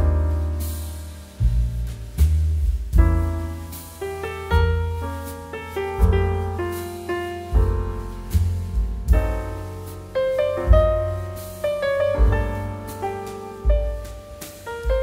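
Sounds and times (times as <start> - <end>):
piano music with deep bass notes: 0.0 - 15.0.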